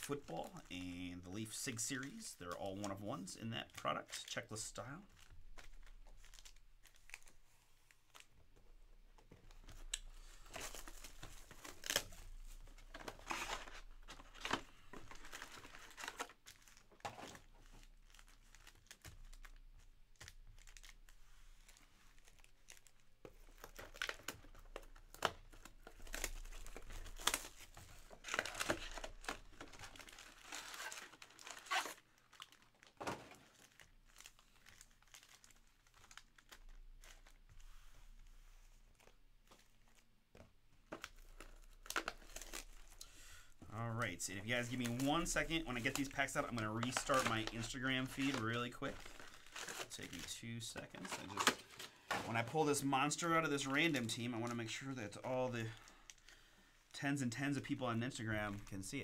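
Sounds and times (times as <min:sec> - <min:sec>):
foil card packs crinkling: 0:00.0 - 0:08.4, 0:09.3 - 0:38.2, 0:40.8 - 0:56.4.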